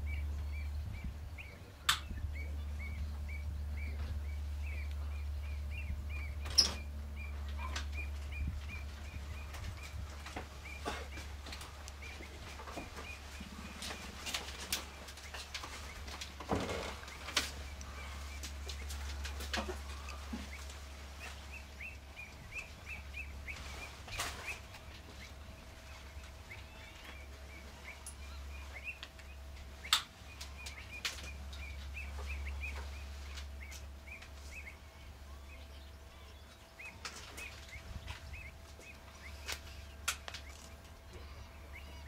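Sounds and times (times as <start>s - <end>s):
low steady rumble: 0.0s - 42.0s
small bird chirping: 0.0s - 42.0s.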